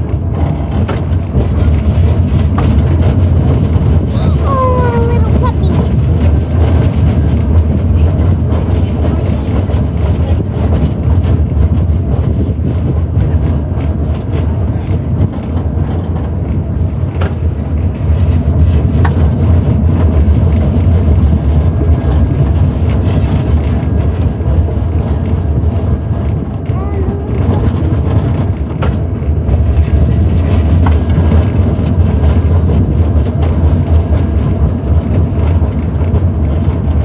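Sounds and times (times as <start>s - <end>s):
streetcar wheels and motor rumbling: 0.0s - 37.0s
wind buffeting microphone: 0.0s - 37.0s.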